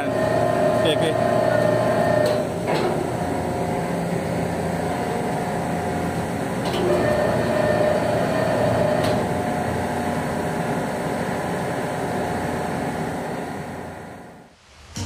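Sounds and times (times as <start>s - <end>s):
shipboard machinery hum: 0.0s - 14.5s.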